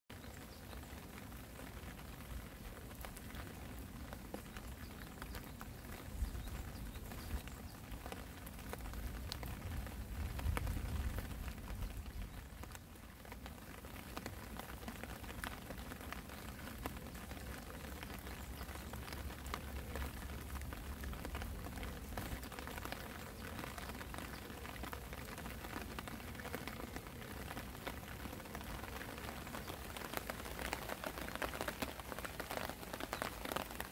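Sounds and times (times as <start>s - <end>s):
rain patter into puddle: 0.1s - 33.9s.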